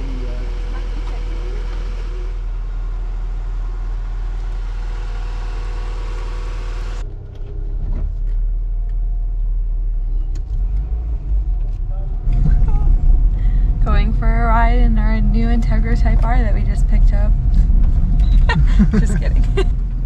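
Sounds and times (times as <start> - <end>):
car engine and road rumble: 0.0 - 20.0
car engine idling: 0.0 - 20.0.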